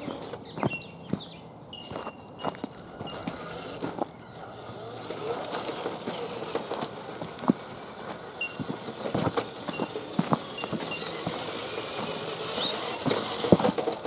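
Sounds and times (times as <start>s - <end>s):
tyres crunching on dirt: 0.0s - 14.0s.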